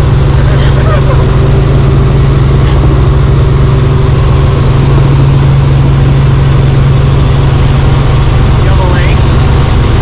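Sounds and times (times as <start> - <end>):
helicopter engine and rotor drone: 0.0 - 10.0.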